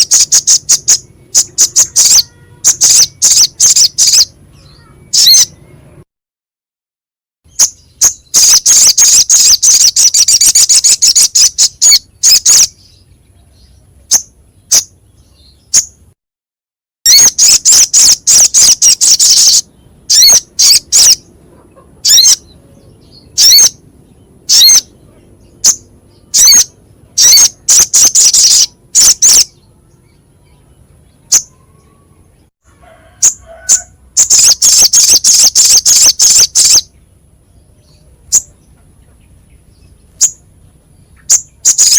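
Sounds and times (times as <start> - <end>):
bird chattering high-pitched song: 0.0 - 6.0, 7.5 - 16.1, 17.1 - 32.5, 33.2 - 41.9.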